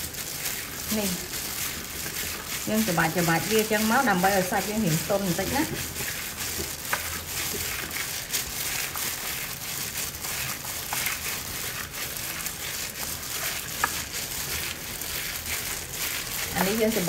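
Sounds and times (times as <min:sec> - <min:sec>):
plastic glove crinkling: 0:00.0 - 0:17.0
wet meat squishing: 0:00.0 - 0:17.0.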